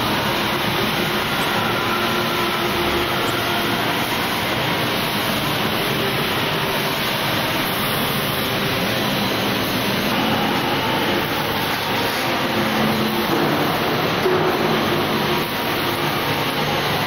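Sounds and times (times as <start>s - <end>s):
factory machinery din: 0.0s - 17.0s.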